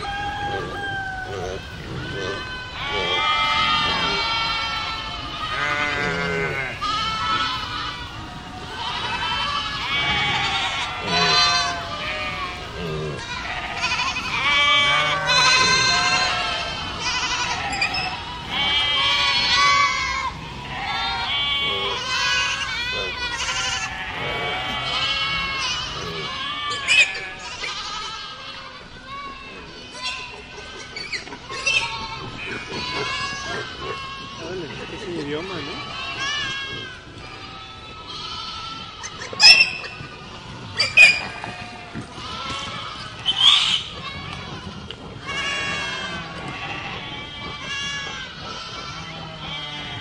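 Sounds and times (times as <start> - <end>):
goats bleating: 0.0 - 50.0.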